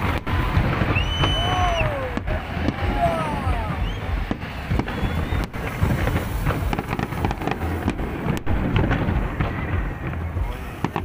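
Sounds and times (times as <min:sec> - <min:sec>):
low rumble: 0:00.0 - 0:10.9
firework shells bursting and crackling: 0:00.0 - 0:11.0.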